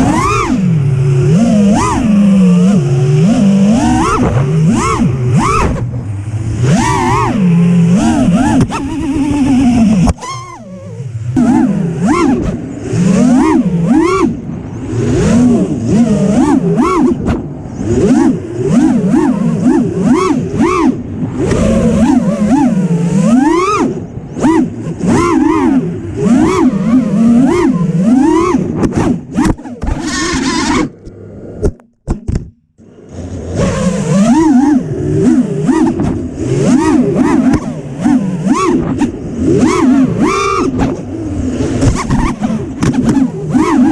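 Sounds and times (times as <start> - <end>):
quadcopter motors whining: 0.0 - 31.3, 32.8 - 43.9.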